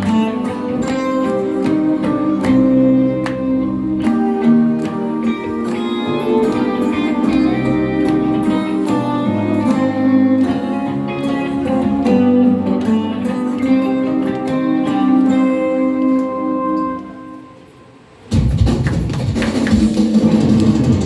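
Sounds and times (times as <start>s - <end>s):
guitar playing plucked notes: 0.0s - 18.4s.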